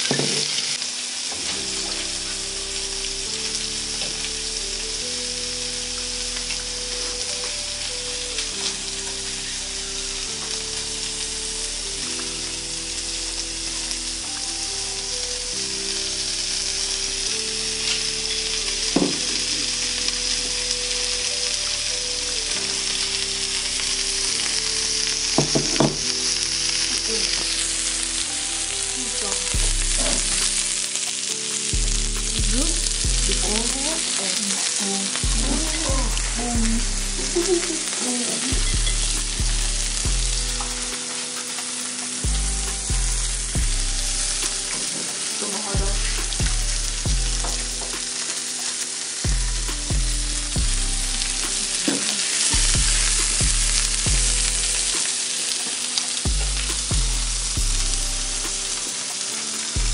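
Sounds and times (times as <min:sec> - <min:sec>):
food frying in a pan: 0:00.0 - 0:59.9
background music with bass line: 0:01.2 - 0:59.9.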